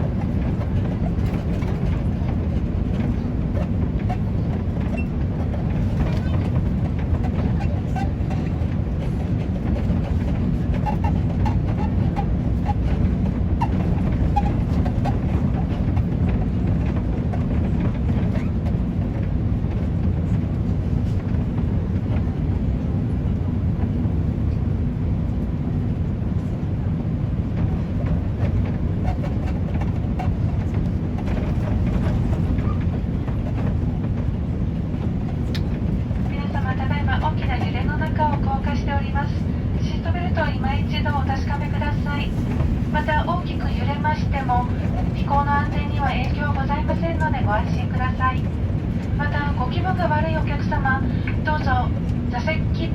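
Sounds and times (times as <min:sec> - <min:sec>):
aircraft engine noise: 0:00.0 - 0:52.9
airflow in aircraft cabin: 0:00.0 - 0:52.9.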